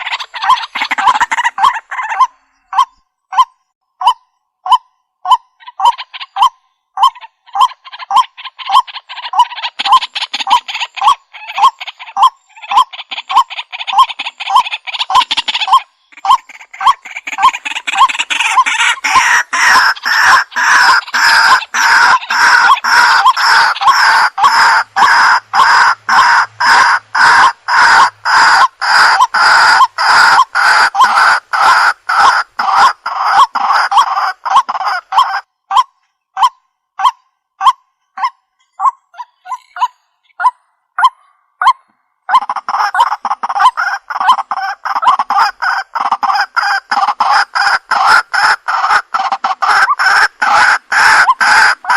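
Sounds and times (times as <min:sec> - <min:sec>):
waterhen calling: 0:00.0 - 0:51.9.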